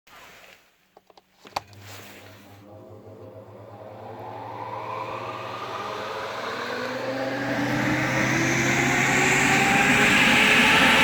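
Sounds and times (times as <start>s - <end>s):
electric fan motor humming: 1.6s - 11.0s.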